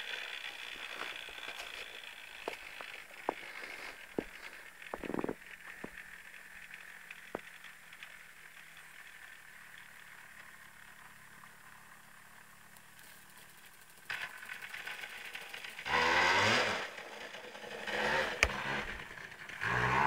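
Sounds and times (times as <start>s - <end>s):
distant two-stroke engine drone: 0.0s - 20.0s.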